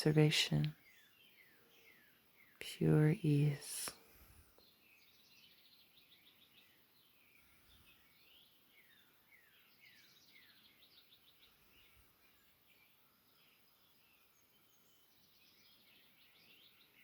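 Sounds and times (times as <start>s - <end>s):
faint birdsong chirps and trills: 0.0s - 17.0s.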